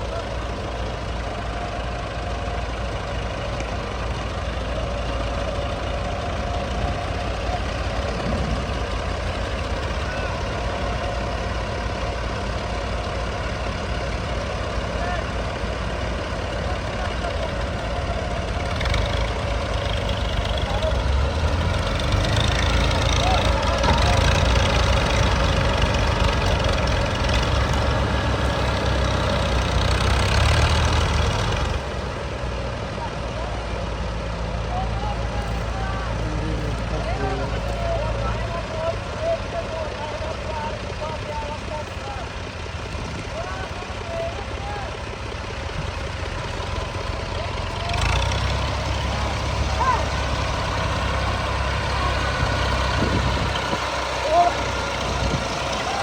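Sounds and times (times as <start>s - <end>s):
combine harvester running: 0.0s - 56.0s
diesel engine droning: 0.0s - 56.0s.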